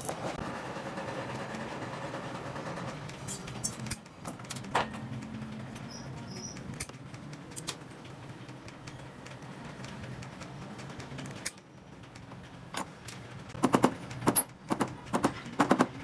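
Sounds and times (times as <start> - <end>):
steady low hum: 0.0 - 16.0
small tools clicking and tapping: 3.1 - 16.0.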